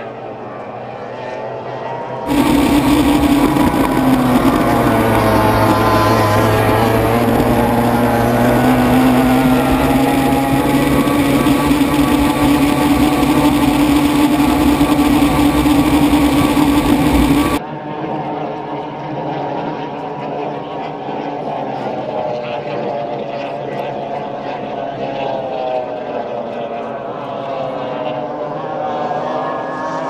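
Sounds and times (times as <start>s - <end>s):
outboard engine at high revs: 0.0s - 17.6s, 21.5s - 30.0s.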